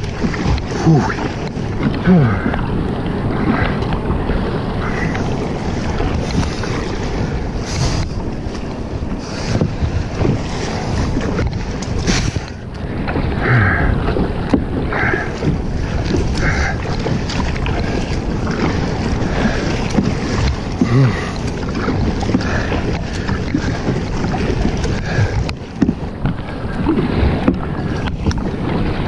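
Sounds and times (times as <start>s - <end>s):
paddle stroke splashes: 0.0s - 29.0s
wind noise on microphone: 0.0s - 29.0s.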